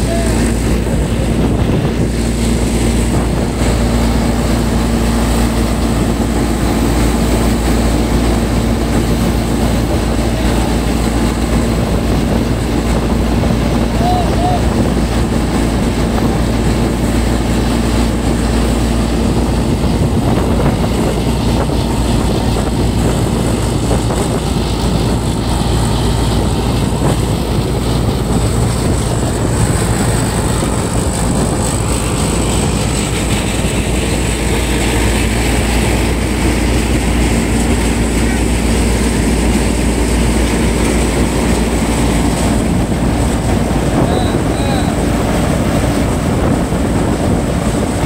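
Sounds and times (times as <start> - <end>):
tractor-driven thresher running: 0.0 - 48.0.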